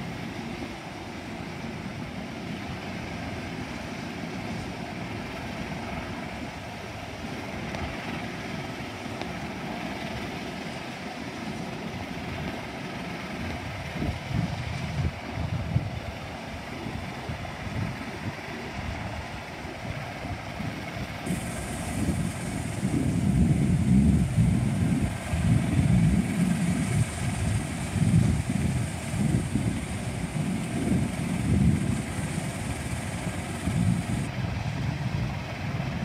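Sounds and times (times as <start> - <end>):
turboprop plane propeller drone: 0.0 - 36.0.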